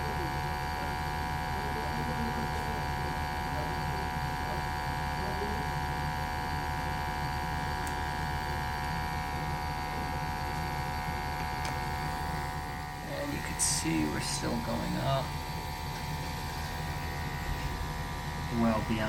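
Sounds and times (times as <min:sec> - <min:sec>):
low steady hum: 0:00.0 - 0:19.0
sampling pump buzzing: 0:00.0 - 0:19.0.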